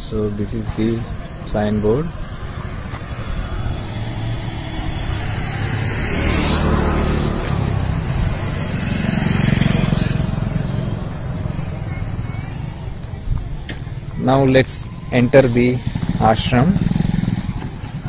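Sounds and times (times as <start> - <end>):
motorbikes riding past: 0.0 - 18.0.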